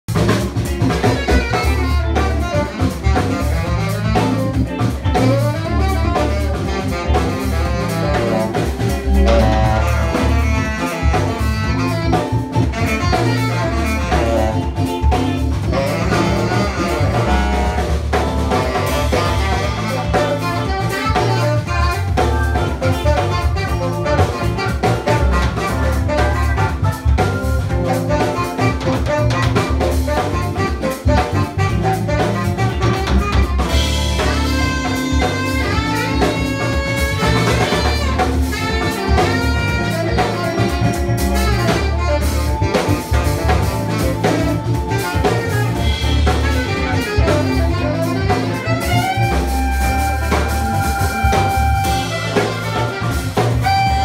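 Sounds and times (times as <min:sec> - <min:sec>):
funk band playing: 0:00.0 - 0:54.0
heavy bass line: 0:00.1 - 0:54.0
tenor saxophone solo: 0:00.1 - 0:54.0.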